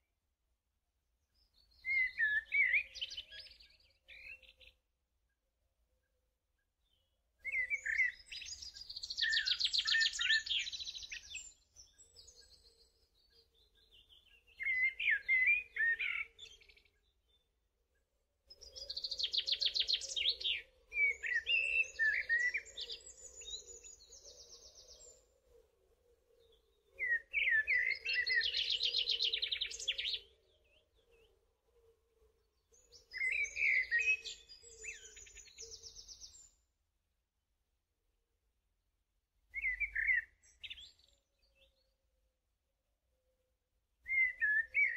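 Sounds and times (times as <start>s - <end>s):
songbirds chirping and trilling: 0.8s - 44.9s.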